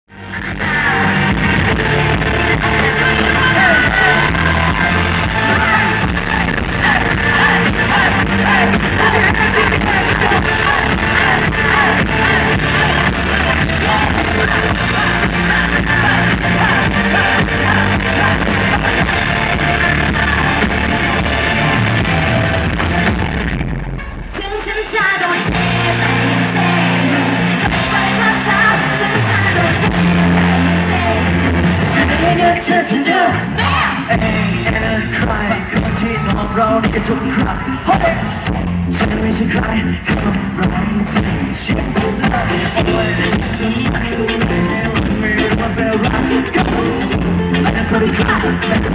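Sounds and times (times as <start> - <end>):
heavy bass: 0.0 - 48.9
pop-rock band playing: 0.1 - 48.9
man singing lead vocal: 0.2 - 23.4, 24.4 - 48.9.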